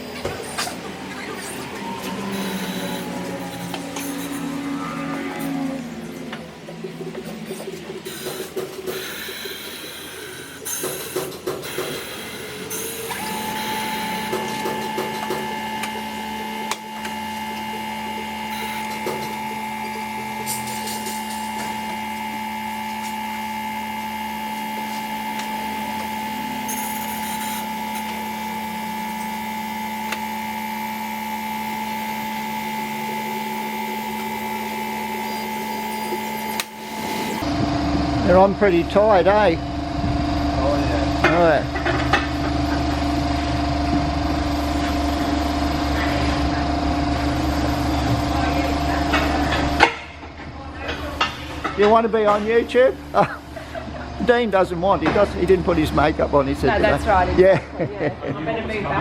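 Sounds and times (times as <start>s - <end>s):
machine motor whine: 0.0s - 57.7s.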